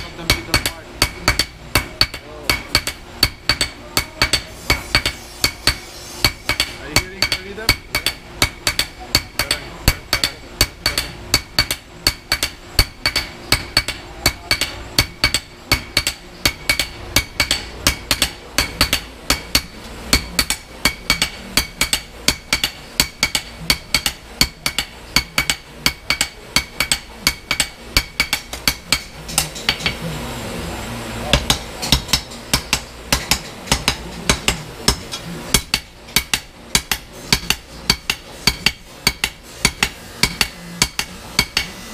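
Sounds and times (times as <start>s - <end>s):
hammers striking steel on anvil: 0.0s - 30.0s, 31.3s - 41.9s.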